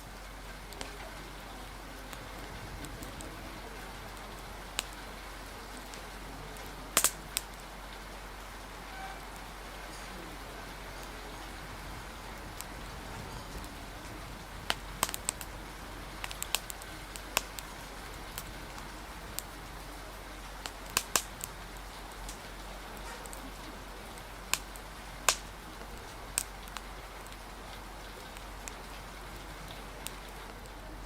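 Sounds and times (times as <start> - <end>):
rain hissing: 0.0 - 31.0
wind: 0.0 - 31.0
wood fire crackling and popping: 0.0 - 31.0.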